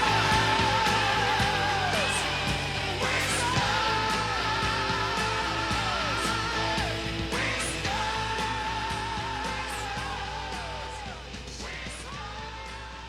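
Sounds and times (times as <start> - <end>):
rock music from vinyl record: 0.0 - 13.0.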